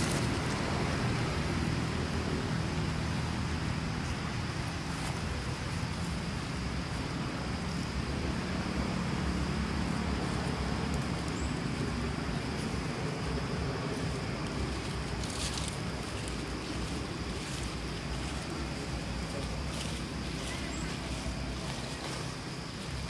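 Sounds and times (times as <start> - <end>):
low uneven rushing rumble: 0.0 - 23.0.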